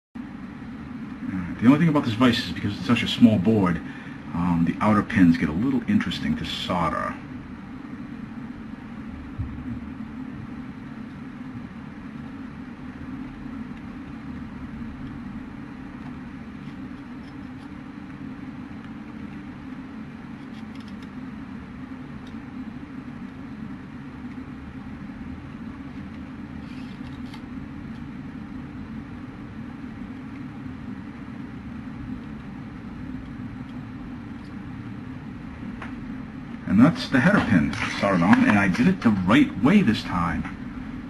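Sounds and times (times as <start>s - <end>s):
low droning hum: 0.2s - 41.0s.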